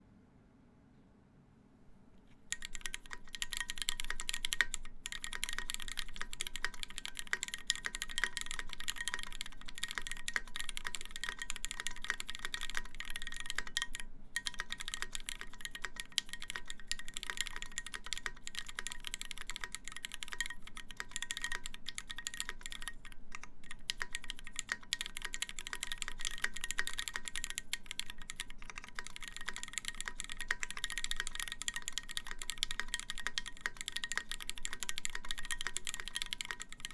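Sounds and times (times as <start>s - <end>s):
mechanical keyboard typing: 2.5s - 36.9s.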